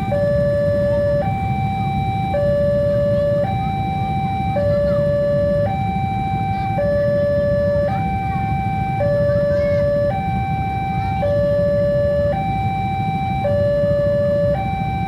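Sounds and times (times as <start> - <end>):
continuous low rumble: 0.0 - 15.0
two-tone warning alarm: 0.0 - 15.0.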